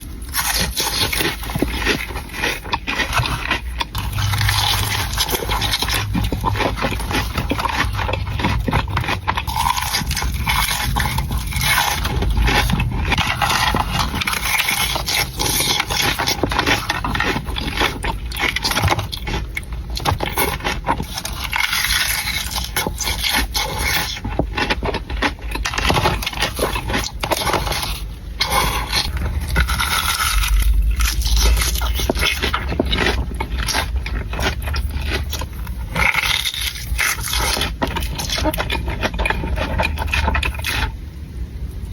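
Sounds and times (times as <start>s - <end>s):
chewing and crunching: 0.0s - 41.9s.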